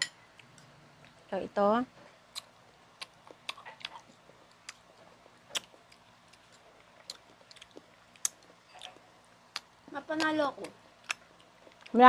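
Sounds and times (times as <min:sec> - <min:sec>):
quiet chewing: 0:02.0 - 0:12.0.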